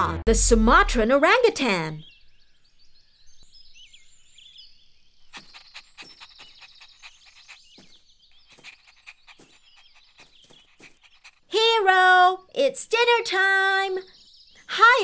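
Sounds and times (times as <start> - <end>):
birds chirping and trilling: 1.0 - 15.0.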